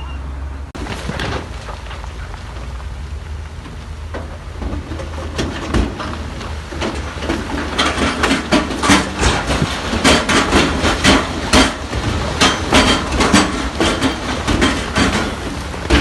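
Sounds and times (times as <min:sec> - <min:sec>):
diesel engine drone: 0:00.0 - 0:16.0
rocks clattering: 0:00.8 - 0:16.0.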